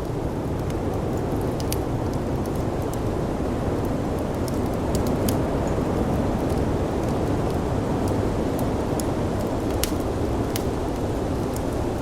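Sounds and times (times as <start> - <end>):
wood fire popping and crackling: 0.0 - 12.0.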